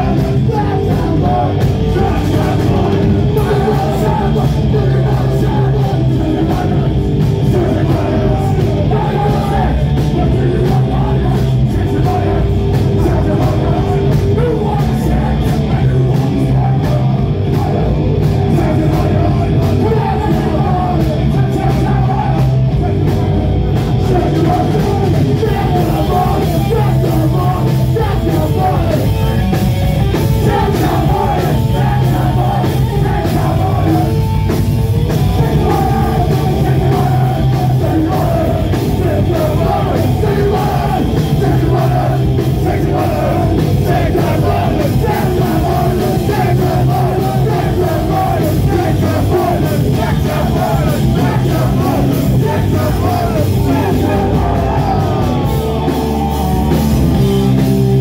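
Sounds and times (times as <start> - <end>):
punk band playing: 0.0 - 58.0
shouted vocals: 0.0 - 58.0.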